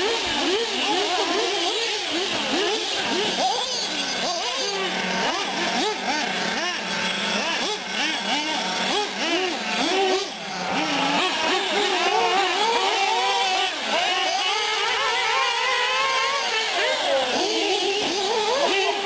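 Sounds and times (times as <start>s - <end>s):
engine climbing whine: 0.0s - 19.0s
small engines revving: 0.0s - 19.0s.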